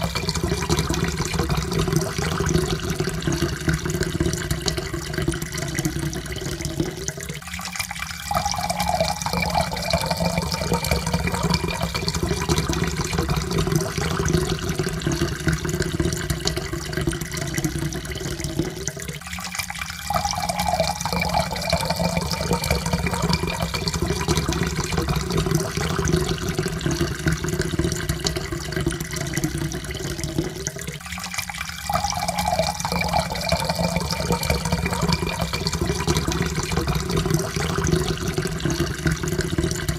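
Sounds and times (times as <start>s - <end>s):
water pouring into a cup: 0.0s - 39.9s.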